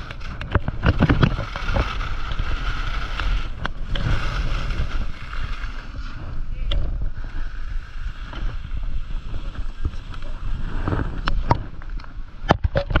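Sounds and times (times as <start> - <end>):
skis scraping over snow: 0.0 - 12.5
wind on microphone: 0.0 - 13.0.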